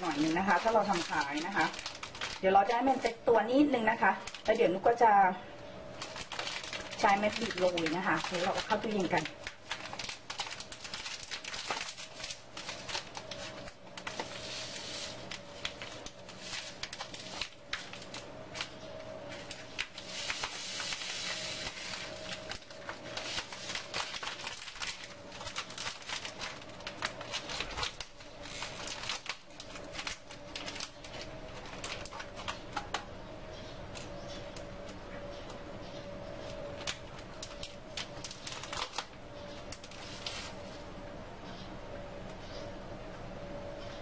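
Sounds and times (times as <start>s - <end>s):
plastic piping bag crinkling: 0.0s - 33.2s, 36.3s - 40.9s
steady low hum: 0.0s - 44.0s.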